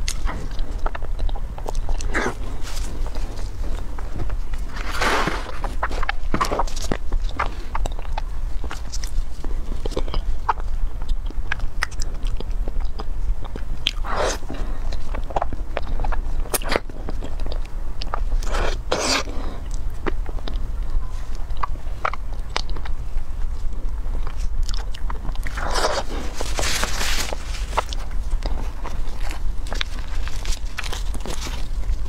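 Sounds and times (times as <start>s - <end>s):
low hum: 0.0s - 32.0s
person chewing cake: 0.0s - 32.0s.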